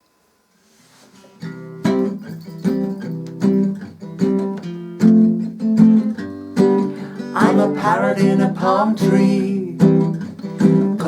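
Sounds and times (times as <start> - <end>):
guitar strumming chords: 1.4 - 11.0.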